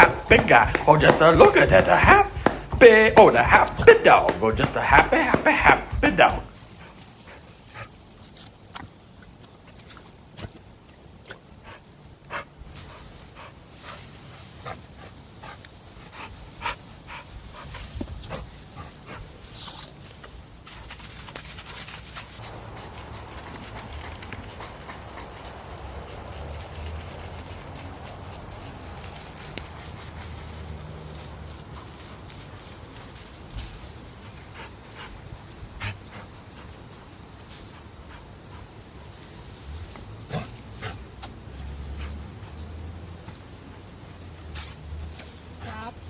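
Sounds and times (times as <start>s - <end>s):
dog panting and snapping: 0.0s - 45.8s
water hissing and splashing from hose: 0.0s - 46.0s.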